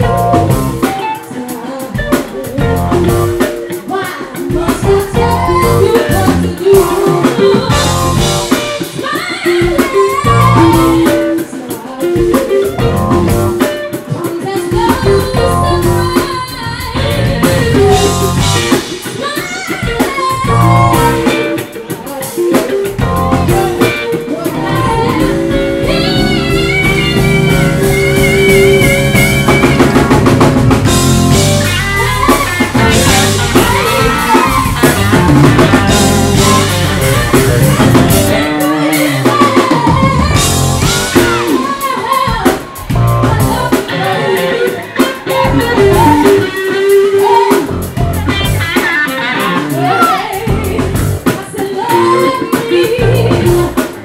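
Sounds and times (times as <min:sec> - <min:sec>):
woman singing into a microphone: 0:00.0 - 0:29.4, 0:31.7 - 0:48.0, 0:49.0 - 0:54.0
drum kit: 0:00.0 - 0:54.0
electric guitar: 0:00.0 - 0:54.0.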